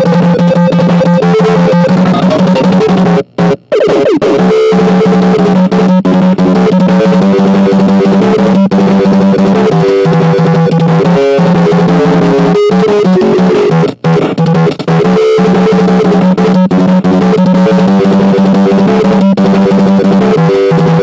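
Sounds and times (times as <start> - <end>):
loud music with drums and guitar: 0.0 - 21.0.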